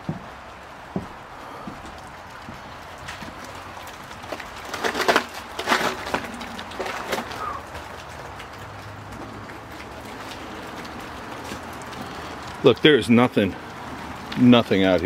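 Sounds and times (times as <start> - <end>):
footsteps crunching on broken wood: 0.0 - 15.0.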